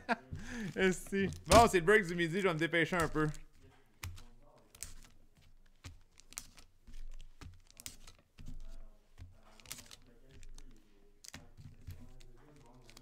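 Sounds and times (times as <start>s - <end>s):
foil wrappers crinkling and tearing: 0.4s - 13.0s.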